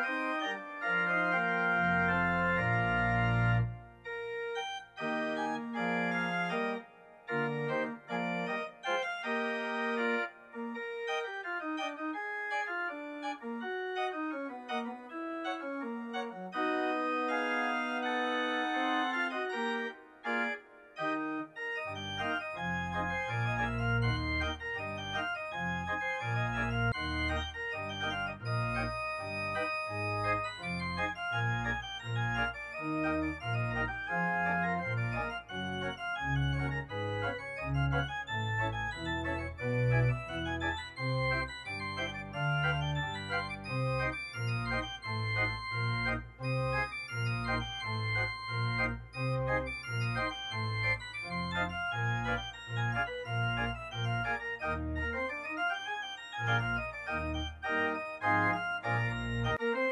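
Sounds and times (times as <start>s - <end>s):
organ music: 0.0s - 59.9s.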